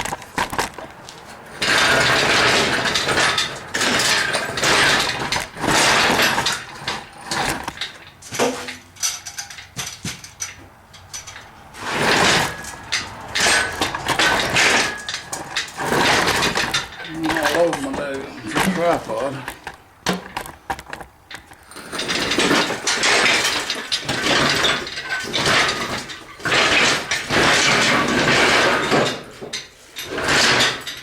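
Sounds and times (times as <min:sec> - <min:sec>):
metal scraping and clanking: 0:00.0 - 0:31.0.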